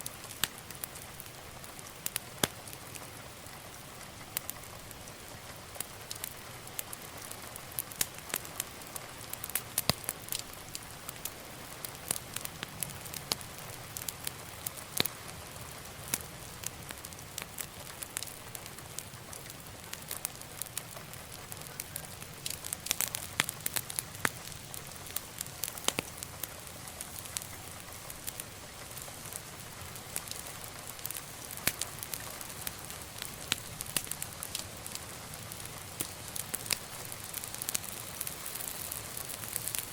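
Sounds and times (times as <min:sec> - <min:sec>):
flames hissing and rumbling: 0:00.0 - 0:39.9
wood fire crackling and popping: 0:00.0 - 0:39.9.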